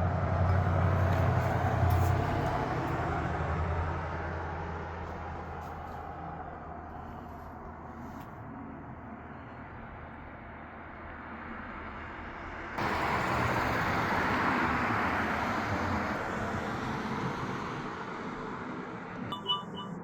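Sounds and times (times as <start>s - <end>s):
road vehicle passing: 0.0s - 9.5s, 10.5s - 20.0s.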